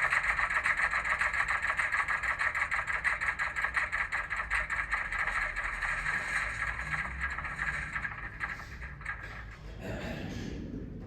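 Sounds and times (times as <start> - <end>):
diesel engine sound from small speaker: 0.0 - 11.0.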